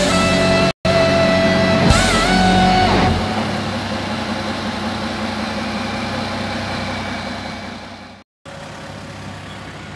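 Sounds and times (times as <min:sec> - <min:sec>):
diesel engine idling: 0:00.4 - 0:09.9.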